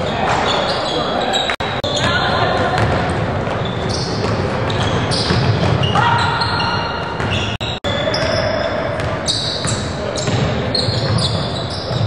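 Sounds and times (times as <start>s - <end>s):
echoing voices: 0.0s - 12.0s.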